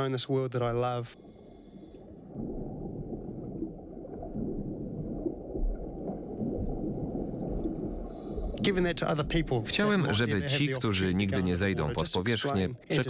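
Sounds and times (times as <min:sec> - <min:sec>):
faint water gurgles: 0:00.0 - 0:13.0
churning underwater noise: 0:00.6 - 0:13.0.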